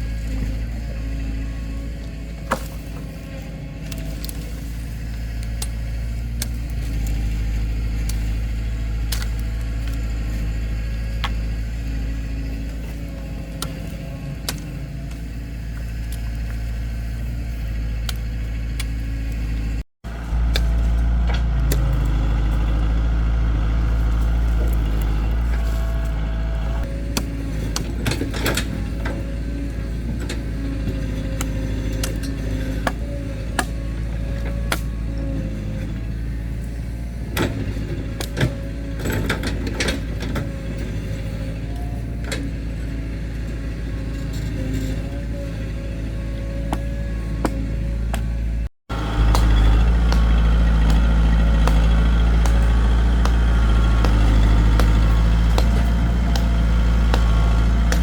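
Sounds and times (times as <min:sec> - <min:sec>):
heavy engine rumbling: 0:00.0 - 0:58.0.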